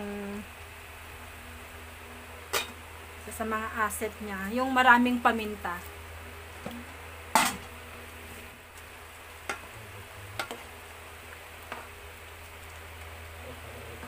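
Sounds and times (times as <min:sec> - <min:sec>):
soft sizzle of simmering food: 0:00.0 - 0:14.0
steady low hum: 0:00.0 - 0:14.0.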